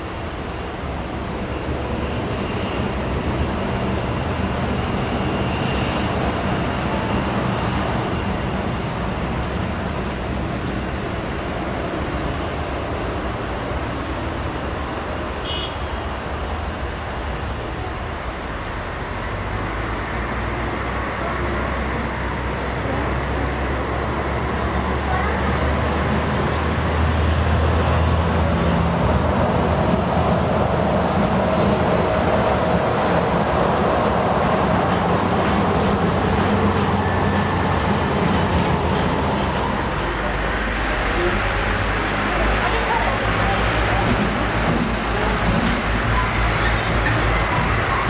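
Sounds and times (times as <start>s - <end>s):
jet engines rumbling with whine: 0.0s - 48.0s.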